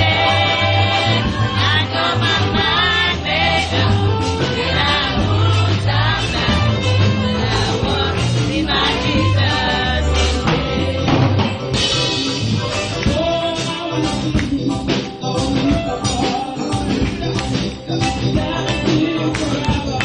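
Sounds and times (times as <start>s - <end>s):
amplified accompaniment with heavy bass: 0.0s - 20.0s
group singing gospel: 0.0s - 20.0s.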